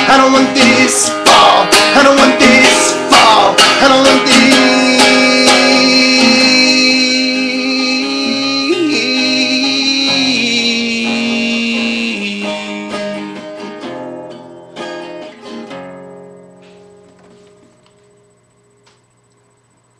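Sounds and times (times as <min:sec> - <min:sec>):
acoustic guitar chords: 0:00.0 - 0:19.3.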